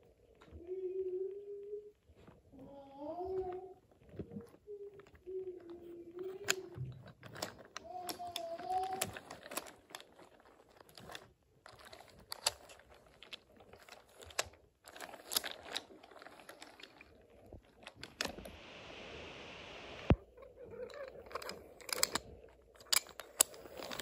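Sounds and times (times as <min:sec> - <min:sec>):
soft steady hiss: 0:00.0 - 0:24.0.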